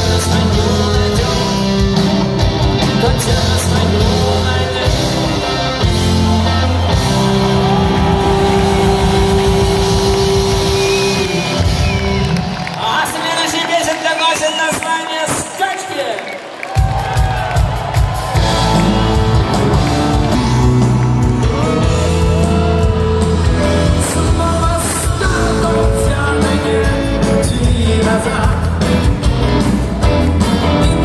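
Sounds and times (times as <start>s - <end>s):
live rock band over sound system: 0.0s - 31.0s.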